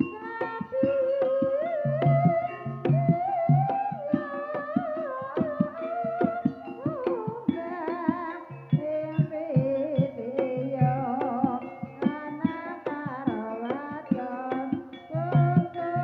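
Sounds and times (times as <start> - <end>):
hand drum strokes: 0.0 - 16.0
wavering sliding melody: 0.0 - 16.0.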